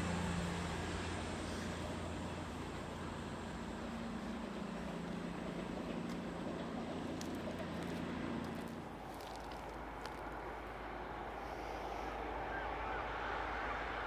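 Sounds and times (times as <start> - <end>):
diesel train engine droning: 0.0 - 14.0.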